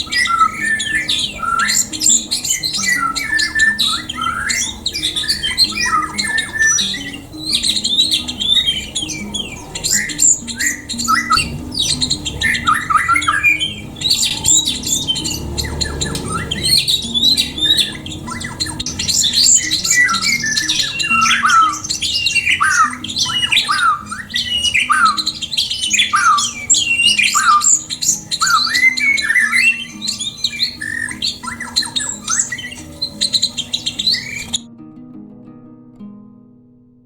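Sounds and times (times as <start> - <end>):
birds chirping and squawking: 0.0 - 34.6
soft background music: 0.0 - 37.0.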